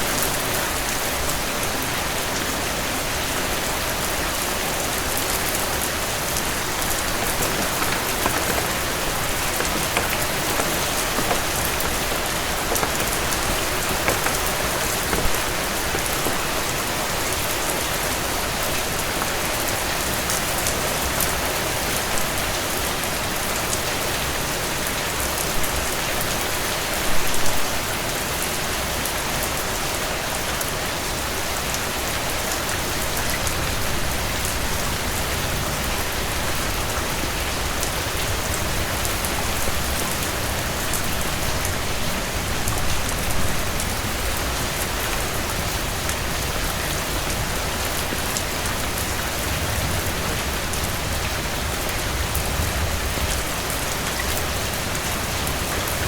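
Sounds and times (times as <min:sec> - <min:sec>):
heavy rain on a porch: 0:00.0 - 0:56.0.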